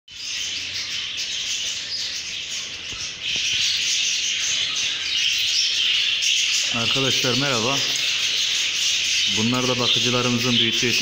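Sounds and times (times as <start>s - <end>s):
budgerigars chirping: 0.1s - 11.0s.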